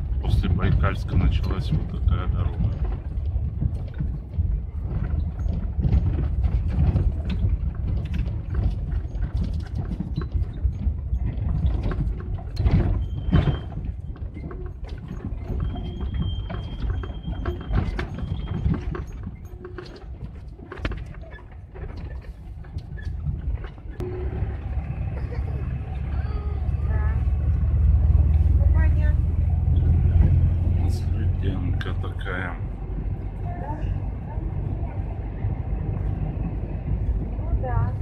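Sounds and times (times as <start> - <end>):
van rumbling on rough road: 0.0 - 38.0
wheels knocking and rattling on bumps: 0.0 - 38.0.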